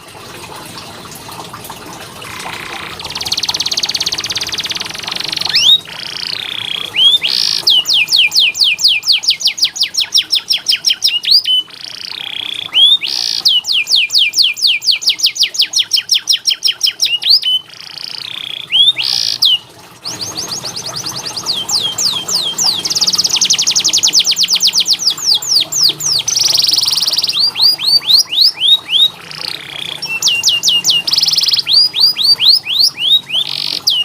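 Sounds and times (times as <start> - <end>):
canary singing: 2.2 - 34.0.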